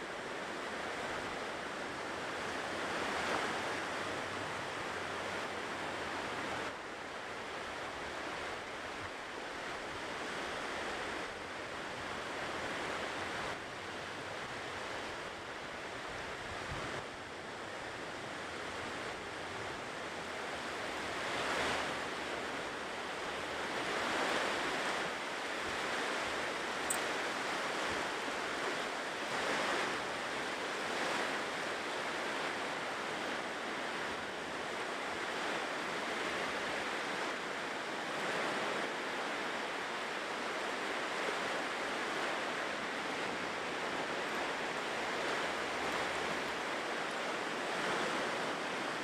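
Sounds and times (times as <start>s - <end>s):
ocean waves breaking on shore: 0.0s - 49.0s.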